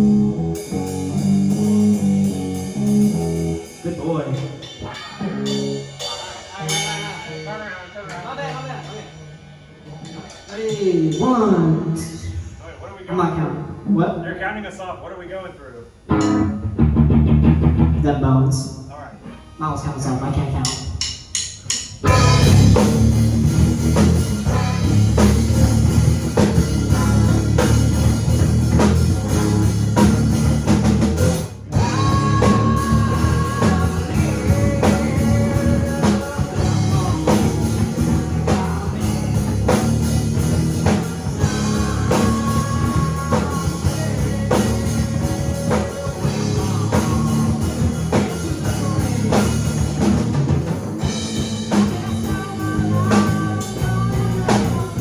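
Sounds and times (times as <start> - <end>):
rock band playing: 0.0 - 12.6, 15.9 - 18.4, 20.4 - 55.0.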